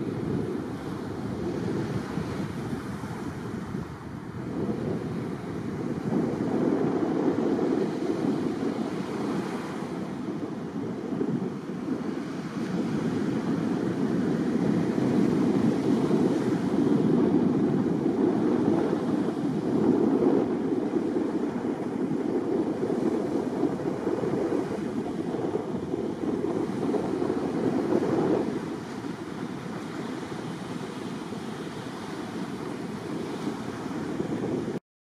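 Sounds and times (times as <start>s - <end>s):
breaking surf: 0.0s - 34.8s
wind on microphone: 0.0s - 34.8s.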